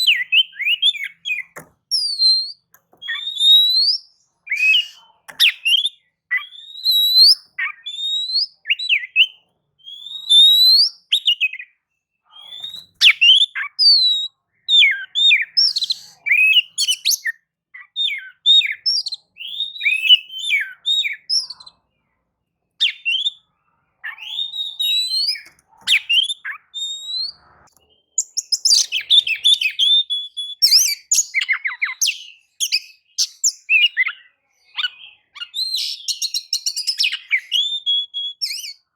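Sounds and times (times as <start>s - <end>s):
bird singing whistled phrases: 0.0s - 21.8s, 22.8s - 38.9s.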